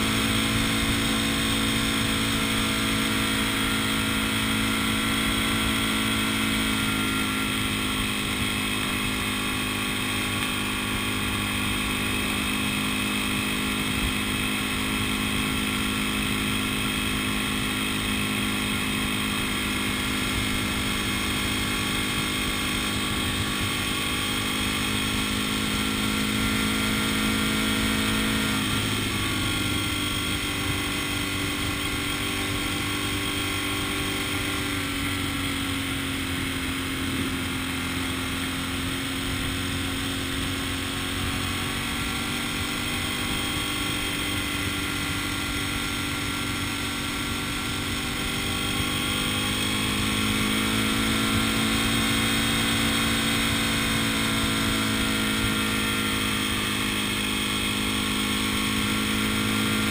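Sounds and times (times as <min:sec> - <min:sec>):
road noise: 0:00.0 - 0:59.9
vehicle engine running: 0:00.0 - 0:59.9.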